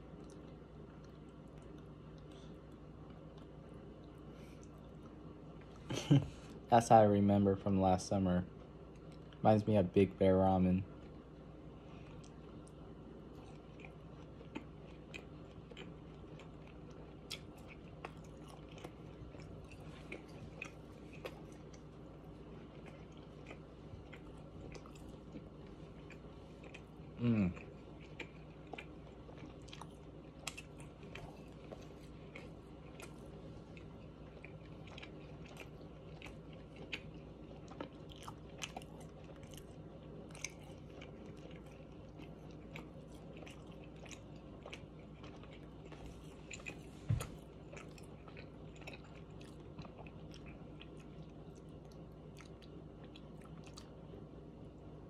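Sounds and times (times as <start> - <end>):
person chewing noodles: 0.0 - 6.7, 11.0 - 54.9.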